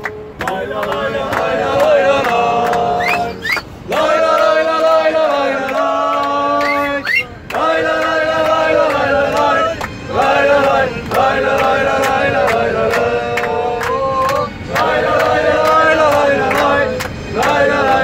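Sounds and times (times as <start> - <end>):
hand claps: 0.0 - 4.6, 5.6 - 18.0
men singing a chant in unison: 0.4 - 18.0.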